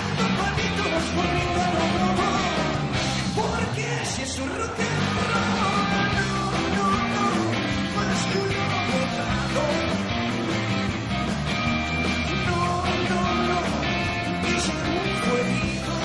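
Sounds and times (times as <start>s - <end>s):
electric guitar: 0.0s - 16.0s
rock band playing live: 0.0s - 16.0s.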